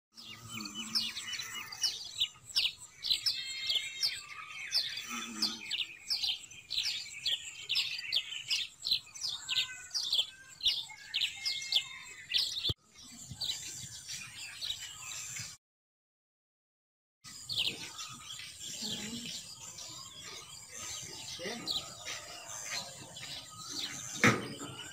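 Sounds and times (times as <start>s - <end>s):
small birds chirping: 0.1s - 15.6s, 17.2s - 24.9s.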